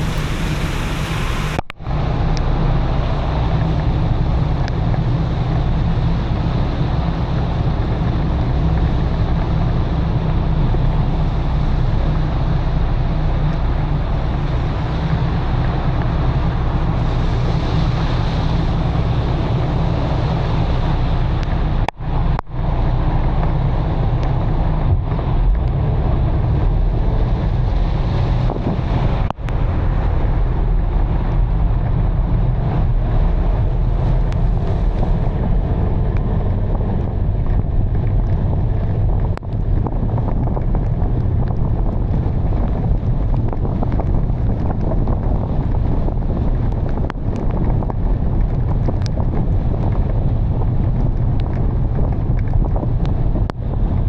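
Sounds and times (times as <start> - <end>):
heavy rain: 0.0 - 54.0
wind buffeting the microphone: 0.0 - 54.0.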